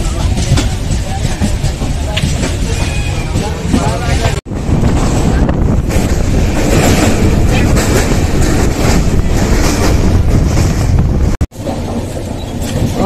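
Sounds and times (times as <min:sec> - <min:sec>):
train rumbling on rails: 0:00.0 - 0:13.0
wind buffeting microphone: 0:00.0 - 0:13.0.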